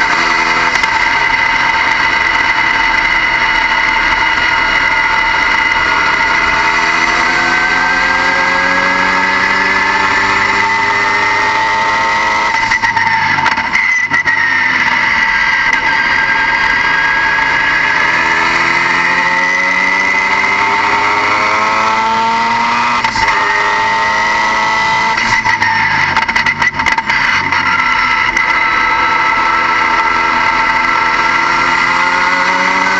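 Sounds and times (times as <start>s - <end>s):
high whine: 0.0s - 32.9s
turbocharged car engine pulling hard: 0.0s - 32.9s.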